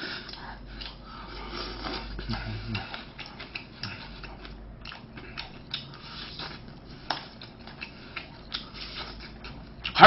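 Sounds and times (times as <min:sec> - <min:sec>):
chewing and mouth noises: 0:00.0 - 0:10.0.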